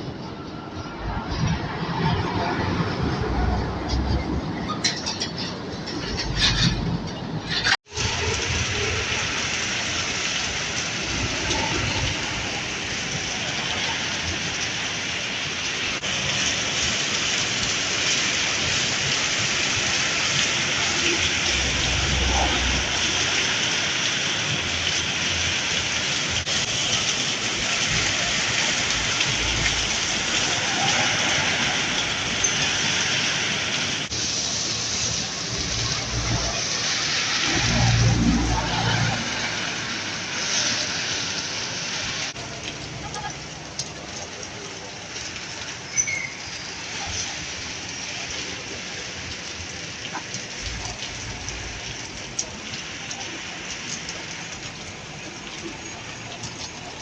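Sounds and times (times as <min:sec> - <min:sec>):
passing traffic rumble: 0:00.0 - 0:57.0
heavy rain on road: 0:07.9 - 0:57.0.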